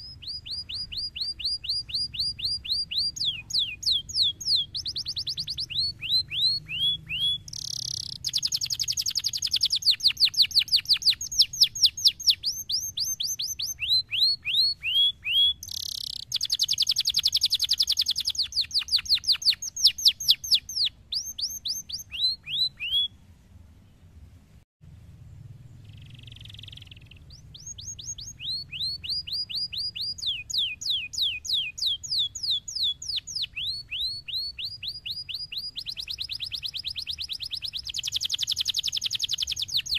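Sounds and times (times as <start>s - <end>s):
canary trilling song: 0.0s - 23.2s, 25.7s - 39.9s.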